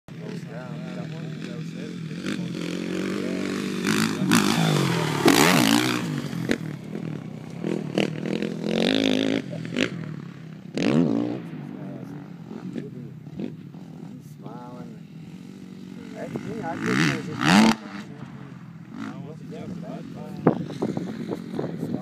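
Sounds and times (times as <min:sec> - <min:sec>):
motocross bike revving: 0:00.1 - 0:22.0.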